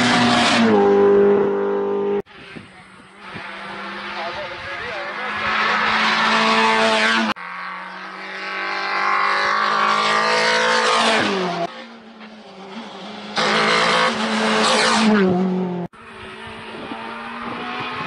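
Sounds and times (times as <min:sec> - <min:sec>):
rally car engines revving: 0:00.0 - 0:18.0.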